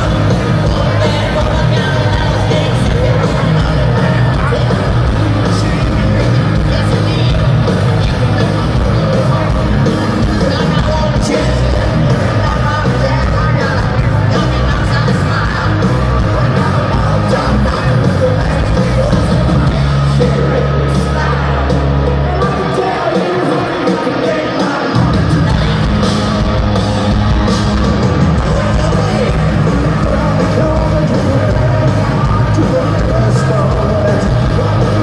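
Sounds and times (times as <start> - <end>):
man singing lead vocal: 0.0 - 26.2, 28.3 - 35.0
hard rock band playing live: 0.0 - 35.0.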